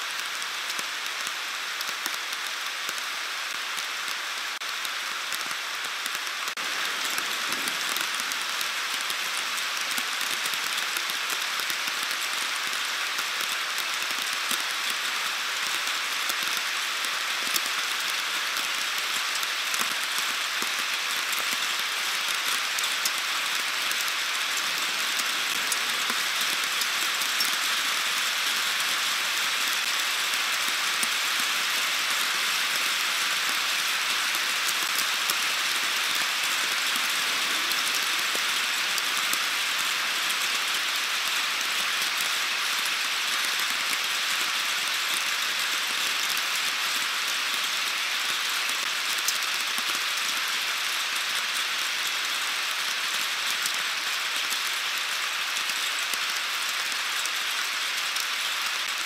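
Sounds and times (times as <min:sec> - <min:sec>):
heavy rain falling: 0:00.0 - 0:59.0
raindrops ticking nearby: 0:00.1 - 0:59.0.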